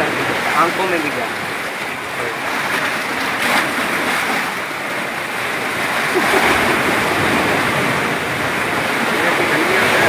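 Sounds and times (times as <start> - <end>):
sea surf slapping platform legs: 0.0 - 10.0.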